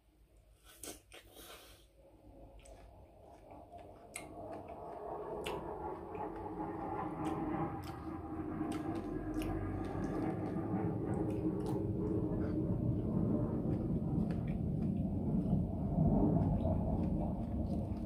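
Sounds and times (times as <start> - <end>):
low hum: 2.0 - 18.0
wet chewing of mango: 2.4 - 18.0.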